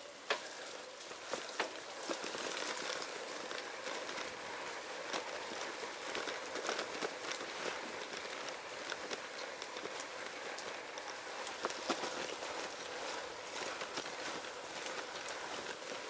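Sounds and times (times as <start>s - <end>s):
rain hissing on wet ground: 0.0s - 16.0s.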